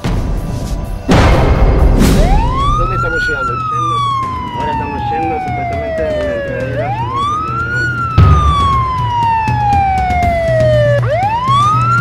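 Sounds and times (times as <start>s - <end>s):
police siren wailing: 2.2s - 12.0s.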